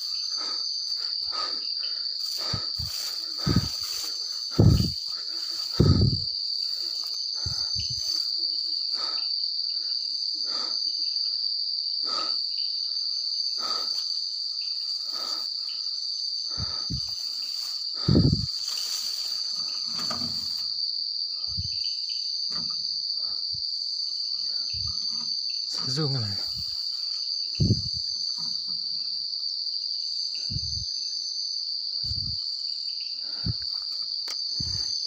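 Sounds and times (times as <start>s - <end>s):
night insects chirring: 0.0s - 35.0s.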